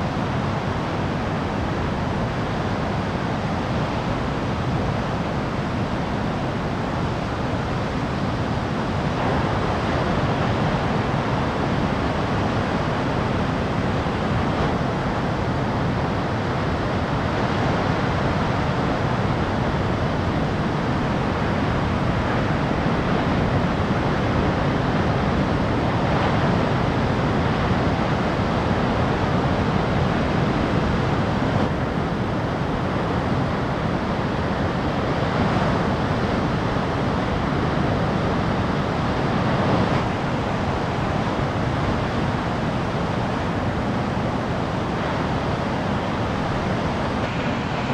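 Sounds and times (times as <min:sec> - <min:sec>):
low rumble of waves: 0:00.0 - 0:47.9
surf breaking on coast: 0:00.0 - 0:47.9.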